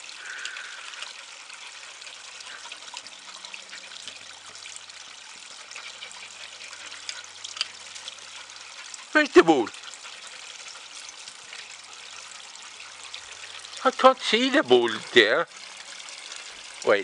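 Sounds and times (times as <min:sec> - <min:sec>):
small water splashes: 0:00.0 - 0:17.0
trickle of running water: 0:00.0 - 0:17.0.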